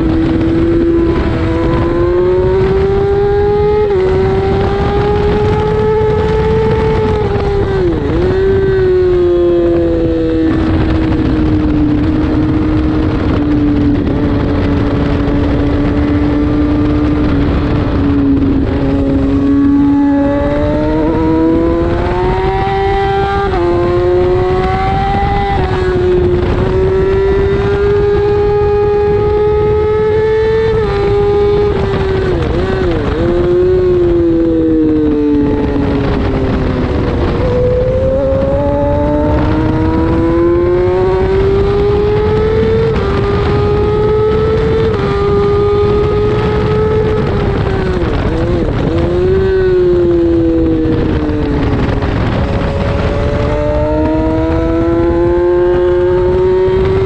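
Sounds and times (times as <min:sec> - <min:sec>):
motorcycle engine at full throttle: 0:00.0 - 0:57.0
wind rush: 0:00.0 - 0:57.0.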